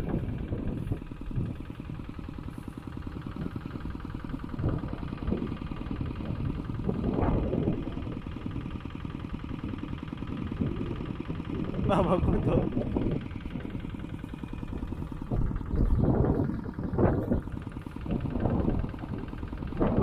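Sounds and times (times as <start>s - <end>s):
hand tractor engine running: 0.0s - 20.0s.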